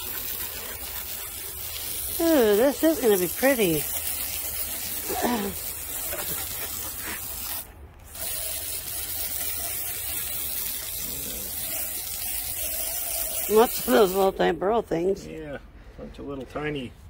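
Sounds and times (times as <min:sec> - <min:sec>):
sawmill cutting a log: 0:00.0 - 0:14.4.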